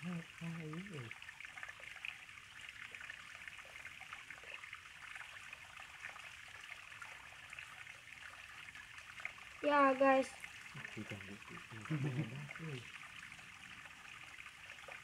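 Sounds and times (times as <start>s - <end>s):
river water babbling: 0.0s - 15.0s.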